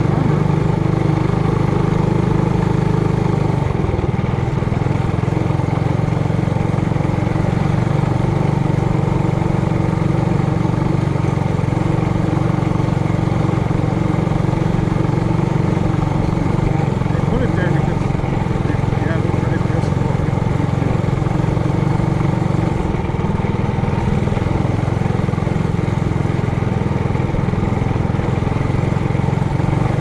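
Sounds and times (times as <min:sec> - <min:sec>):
mini bike engine running: 0:00.0 - 0:30.0.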